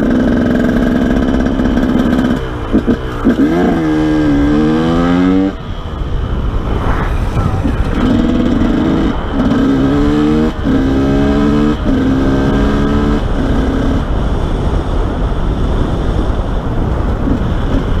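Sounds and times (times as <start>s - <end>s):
motorcycle engine revving: 0.0s - 18.0s
wind and road noise: 0.0s - 18.0s.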